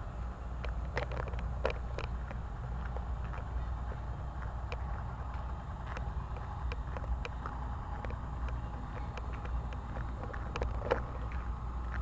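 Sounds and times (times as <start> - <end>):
moving vehicle rumble: 0.0 - 12.0
light clicks and rattles: 0.6 - 12.0.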